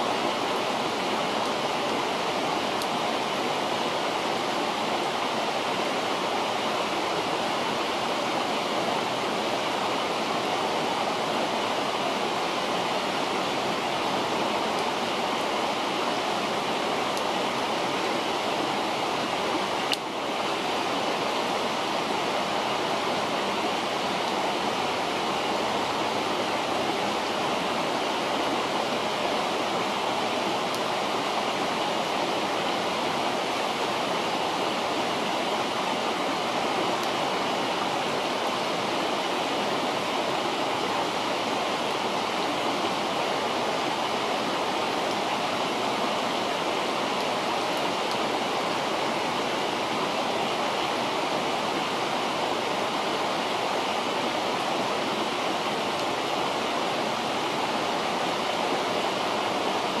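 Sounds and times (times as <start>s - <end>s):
water rushing over rocks: 0.0s - 60.0s.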